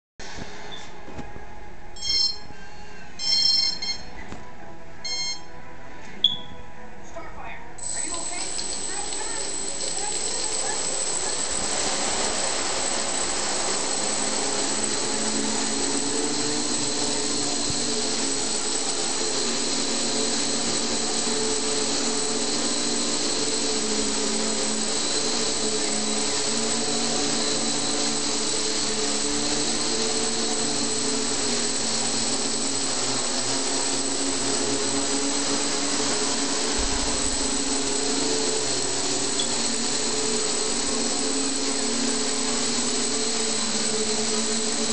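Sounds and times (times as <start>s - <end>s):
drone motors buzzing whine: 7.8s - 44.9s.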